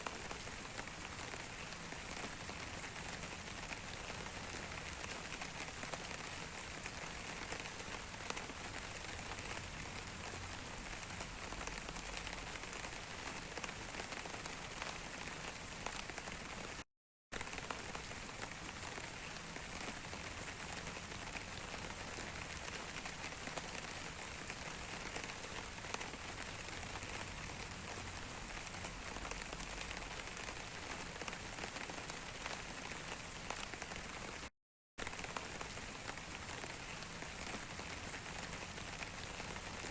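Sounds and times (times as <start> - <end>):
raindrops pattering: 0.0 - 39.9.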